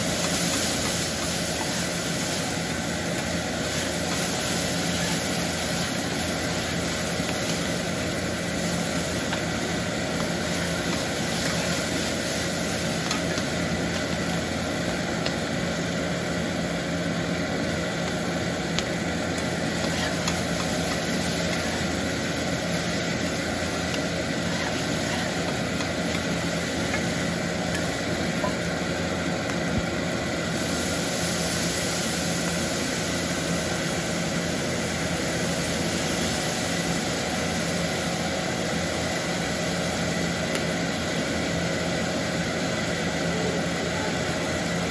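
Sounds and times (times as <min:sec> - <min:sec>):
kitchen hum: 0:00.0 - 0:44.9
meat sizzling on a griddle: 0:00.0 - 0:44.9.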